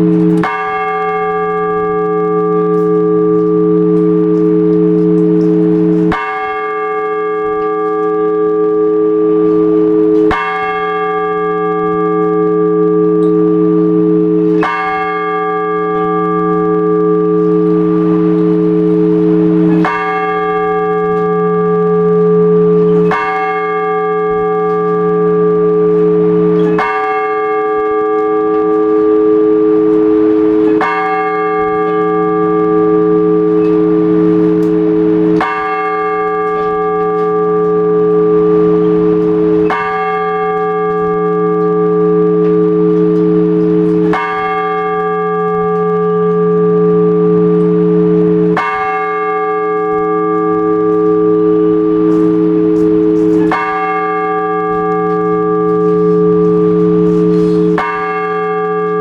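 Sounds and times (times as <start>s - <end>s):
large church bell tolling: 0.0s - 59.0s.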